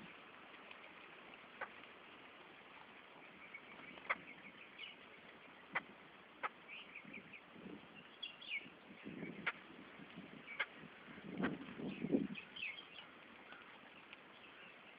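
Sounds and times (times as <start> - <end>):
soft low bird calls: 0.0 - 14.9
small birds chirping: 2.7 - 14.9.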